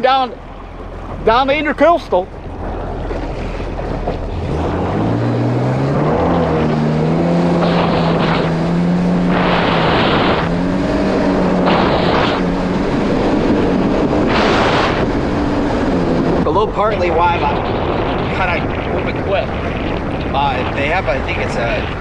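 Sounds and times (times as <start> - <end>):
jet ski engine speeding up: 0.0 - 22.0.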